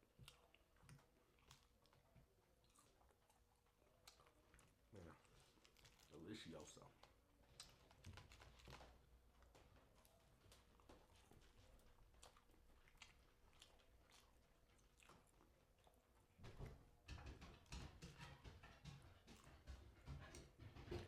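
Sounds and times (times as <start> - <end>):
person chewing food: 0.0 - 6.2, 6.9 - 17.8.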